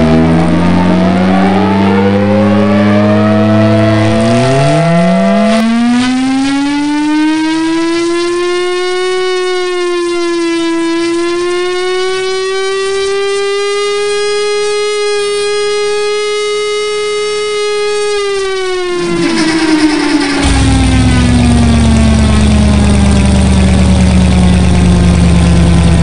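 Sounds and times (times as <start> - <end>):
siren-like wailing tone: 0.0 - 26.0.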